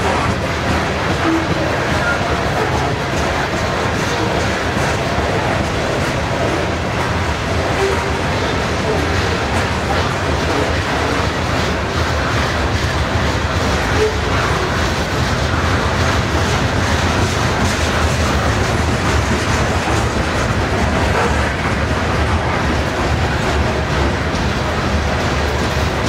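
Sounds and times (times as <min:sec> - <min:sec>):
faint rail clicks: 0:00.0 - 0:26.0
train wheels rumbling on rail: 0:00.0 - 0:26.0.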